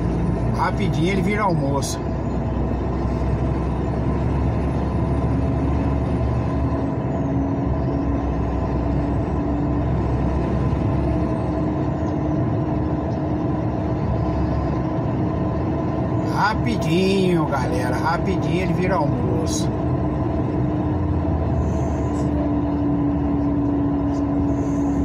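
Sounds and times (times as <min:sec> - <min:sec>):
vehicle road and engine noise: 0:00.0 - 0:25.0.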